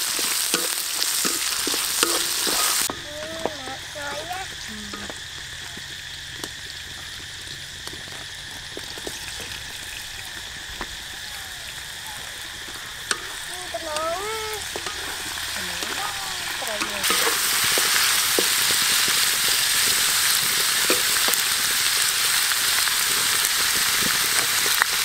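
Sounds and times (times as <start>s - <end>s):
food sizzling in hot oil: 0.0s - 25.0s
oil popping: 0.0s - 25.0s.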